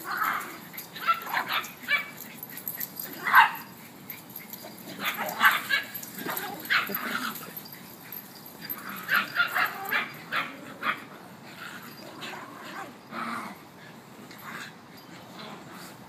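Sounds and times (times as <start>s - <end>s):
dogs barking in play: 0.0s - 16.0s.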